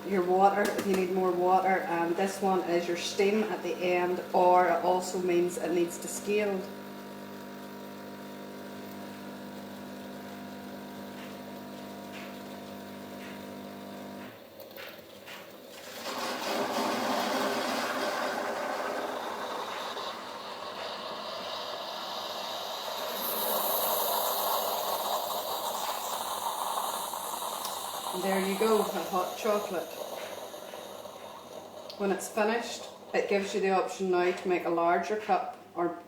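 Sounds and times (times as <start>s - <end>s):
coffee machine hissing: 0.0s - 34.1s
coffee machine pump humming: 0.0s - 34.4s.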